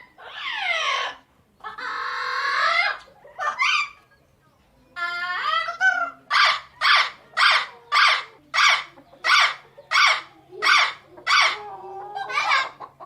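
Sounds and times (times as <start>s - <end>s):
parrot squawking: 0.0s - 4.0s, 5.0s - 11.6s.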